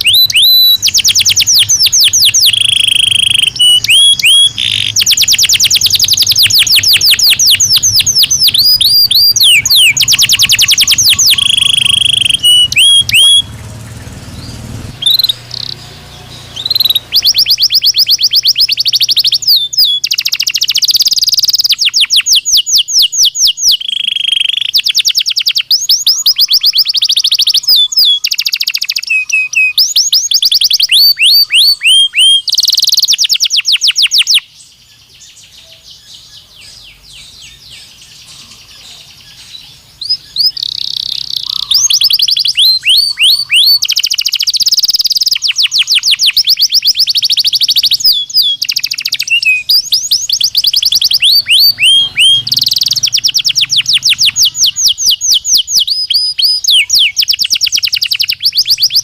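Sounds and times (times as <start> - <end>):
canary singing in trills: 0.0 - 59.0.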